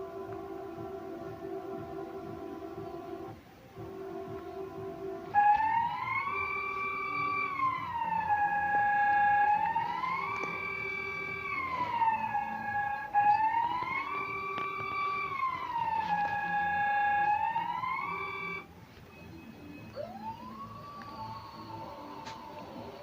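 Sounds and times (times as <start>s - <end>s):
faint rising siren: 0.0s - 23.0s
wailing alert siren: 0.0s - 23.0s.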